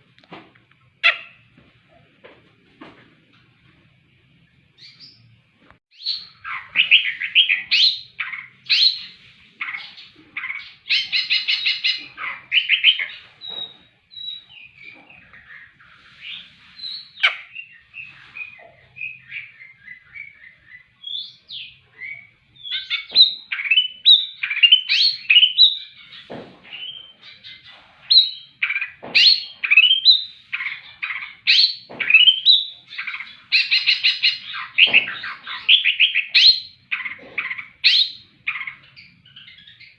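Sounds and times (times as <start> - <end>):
bird song with chirps and trills: 1.0 - 1.5, 4.7 - 39.9.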